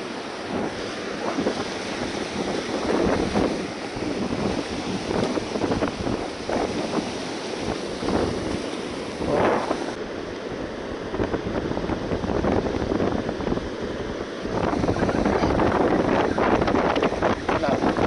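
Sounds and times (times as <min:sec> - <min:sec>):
breaking surf: 0:00.0 - 0:18.0
wind buffeting microphone: 0:00.0 - 0:18.0.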